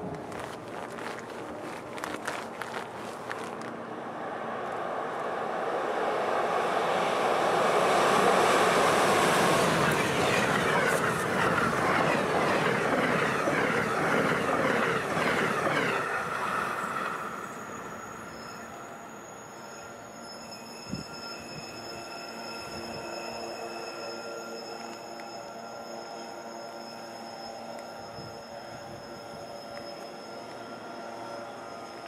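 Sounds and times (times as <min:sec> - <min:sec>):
passenger train rushing past: 0:03.6 - 0:32.0.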